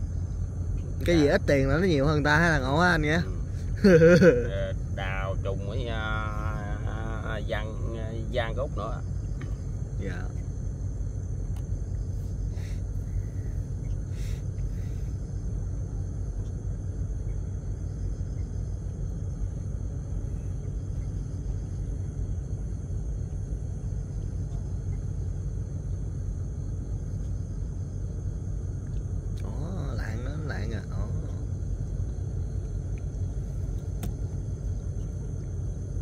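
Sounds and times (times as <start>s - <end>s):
boat engine rumbling: 0.0s - 36.0s.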